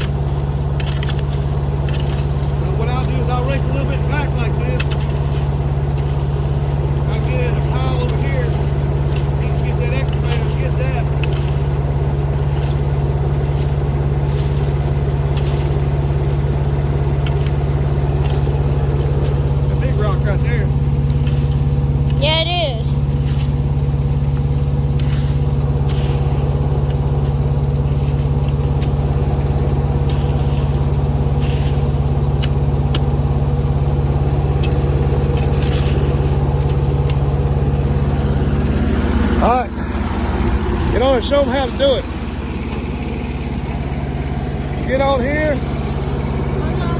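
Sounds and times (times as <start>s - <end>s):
small excavator engine running: 0.0s - 46.9s.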